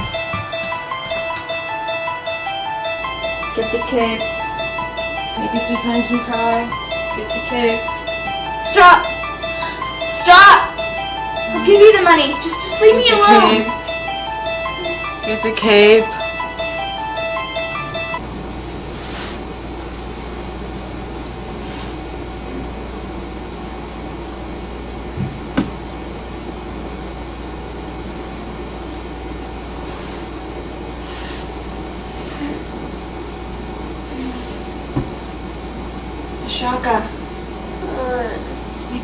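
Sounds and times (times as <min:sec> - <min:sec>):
air conditioner hum: 0:00.0 - 0:39.0.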